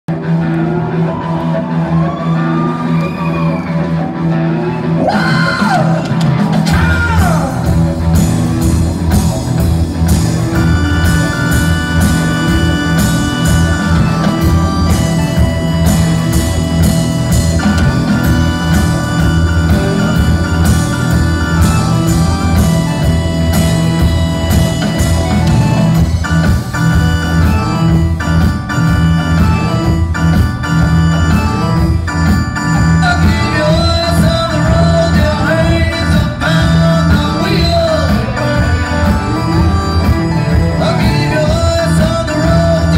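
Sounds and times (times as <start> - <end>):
bass and drums beat: 0.1 - 42.9
electric guitar bends: 0.1 - 42.9
rock band playing: 0.1 - 42.9.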